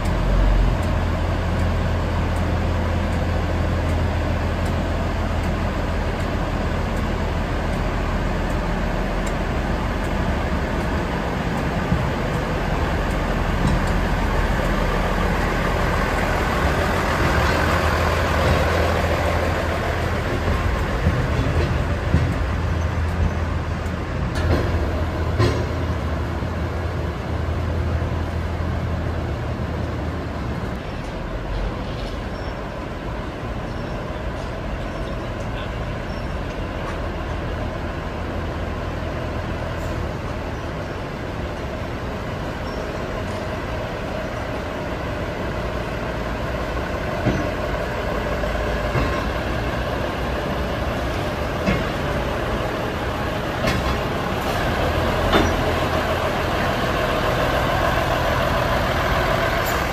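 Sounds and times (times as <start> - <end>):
diesel railcar engine drone: 0.0 - 59.9.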